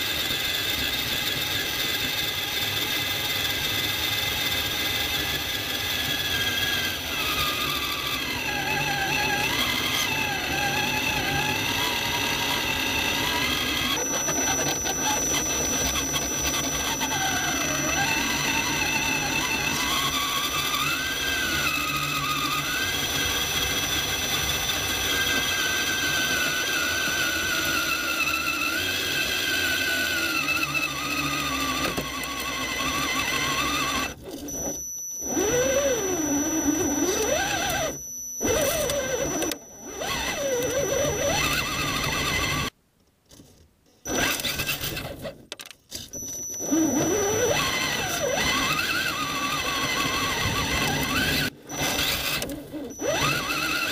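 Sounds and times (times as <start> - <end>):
electric motor and gear whine: 0.0 - 42.8, 44.0 - 45.4, 46.0 - 53.9.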